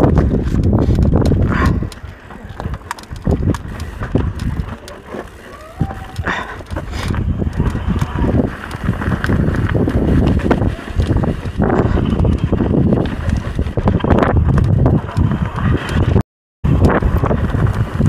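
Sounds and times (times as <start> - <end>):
bike clicks and knocks: 0.0 - 18.0
wind buffeting microphone: 0.0 - 18.0.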